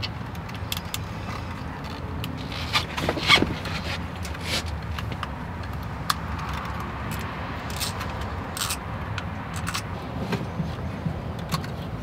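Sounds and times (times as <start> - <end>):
metal parts clicking and knocking: 0.0 - 9.9.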